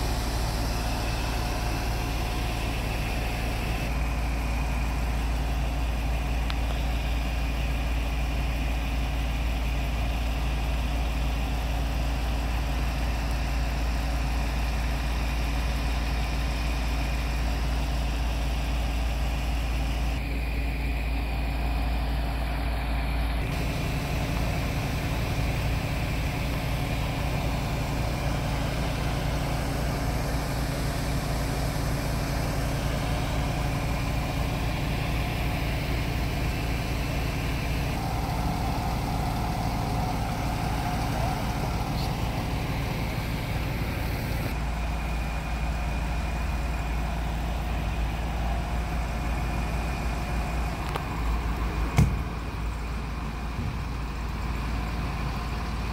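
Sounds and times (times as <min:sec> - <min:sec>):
diesel engines idling: 0:00.0 - 0:55.9.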